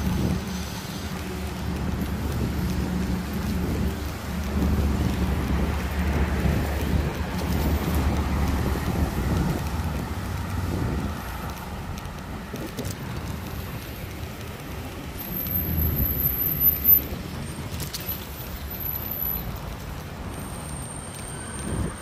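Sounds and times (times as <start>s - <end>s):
car passing: 0.0s - 22.0s
road traffic: 0.0s - 22.0s
wind rumble on microphone: 0.0s - 22.0s.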